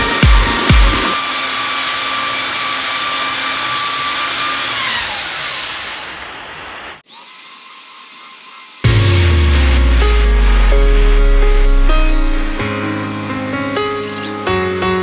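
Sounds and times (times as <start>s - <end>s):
power tool whining and spinning down: 0.0s - 15.0s.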